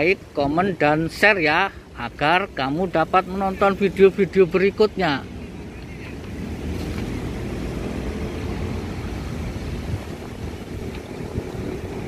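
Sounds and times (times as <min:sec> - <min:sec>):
vehicle engine rumbling: 0:01.5 - 0:12.0.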